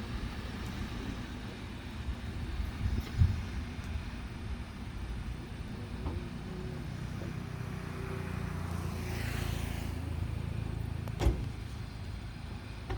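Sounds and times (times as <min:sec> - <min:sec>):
vehicle engine rumble: 0:00.0 - 0:12.9.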